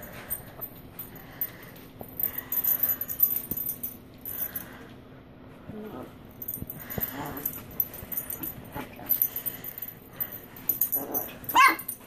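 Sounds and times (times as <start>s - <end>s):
light metallic jingling: 0.0s - 4.8s, 6.3s - 12.0s.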